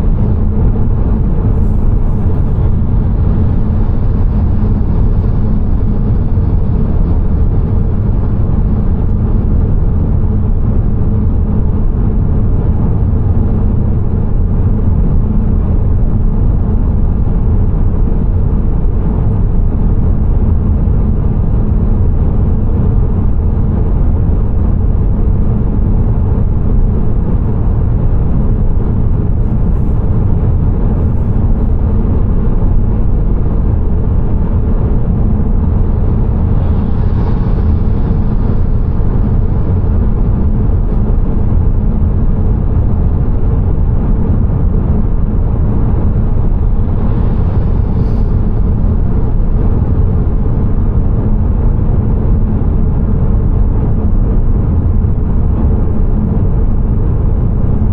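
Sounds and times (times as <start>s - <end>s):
car road and engine rumble: 0.0s - 54.4s.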